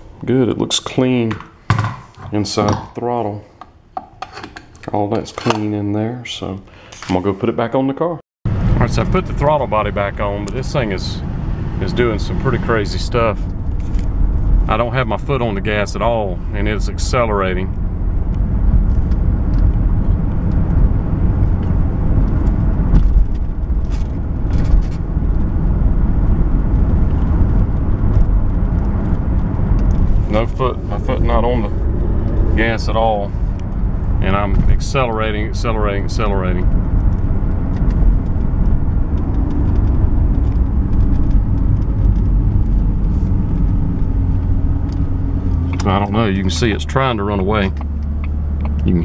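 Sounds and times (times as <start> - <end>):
car engine and road rumble: 0.0 - 6.5, 8.5 - 49.0.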